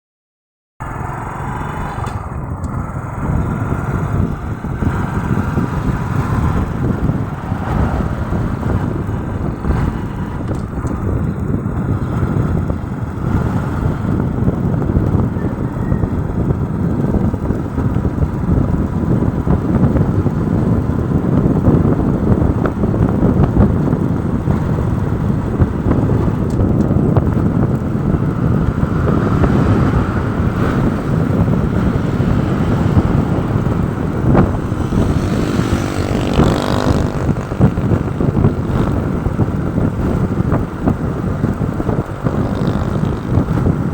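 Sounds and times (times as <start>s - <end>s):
motorcycle rumbling: 0.8s - 43.9s
road traffic: 0.8s - 43.9s
wind buffeting microphone: 0.8s - 43.9s.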